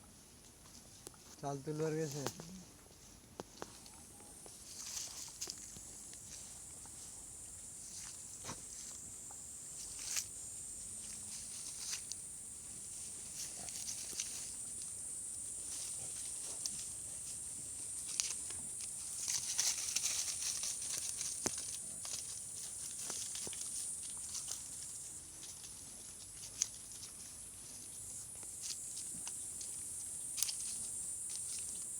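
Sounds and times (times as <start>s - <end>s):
rustles and crackles: 0.0s - 31.9s
steady high-pitched hiss: 0.0s - 31.9s.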